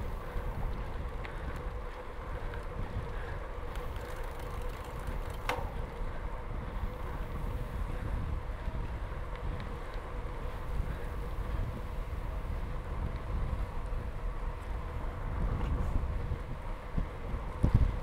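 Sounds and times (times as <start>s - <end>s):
bicycle tyres on gravel: 0.0s - 18.0s
wind buffeting microphone: 0.0s - 18.0s.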